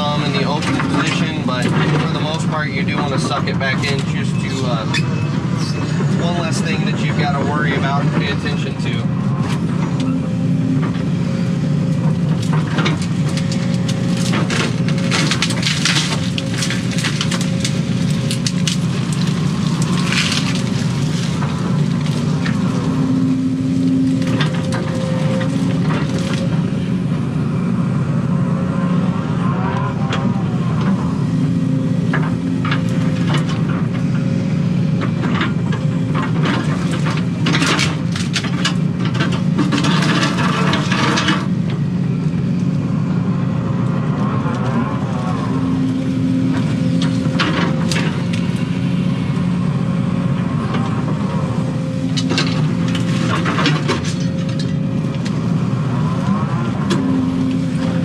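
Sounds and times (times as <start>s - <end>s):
roots crackling and snapping: 0.0s - 27.5s, 29.8s - 58.0s
excavator diesel engine running: 0.0s - 58.0s.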